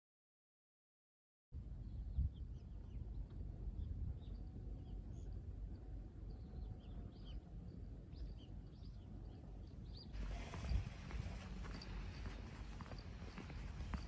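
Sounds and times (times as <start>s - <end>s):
low steady rumble: 1.6s - 14.0s
small birds chirping: 1.8s - 14.0s.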